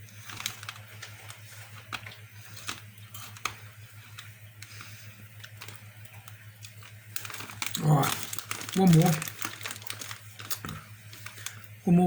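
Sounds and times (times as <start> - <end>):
person chewing crunchy food: 0.3 - 11.7.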